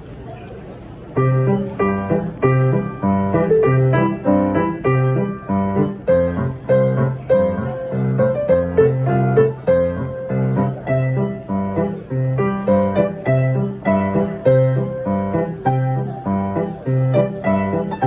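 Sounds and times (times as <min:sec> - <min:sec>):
piano playing: 0:01.2 - 0:18.0.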